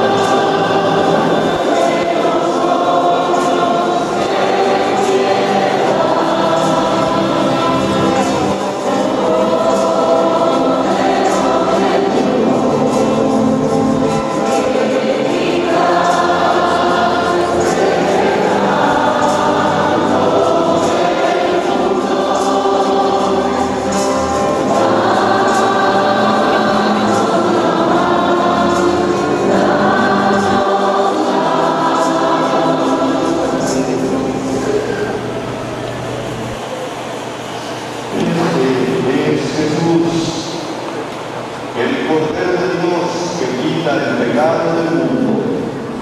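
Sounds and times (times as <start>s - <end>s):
church choir singing a hymn: 0.0s - 46.0s.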